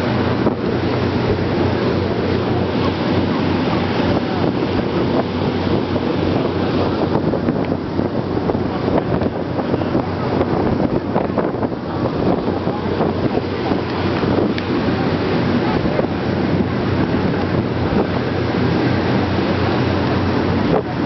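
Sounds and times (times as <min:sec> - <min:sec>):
ferry engines droning: 0:00.0 - 0:21.0
water rushing past hull: 0:00.0 - 0:21.0
wind buffeting microphone: 0:00.0 - 0:21.0.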